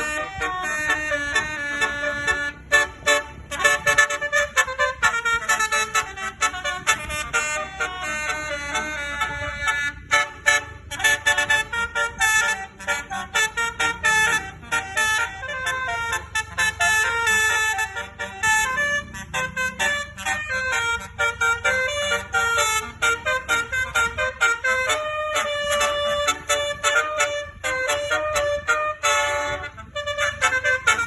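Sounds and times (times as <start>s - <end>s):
musical bus air horn melody: 0.0s - 31.0s.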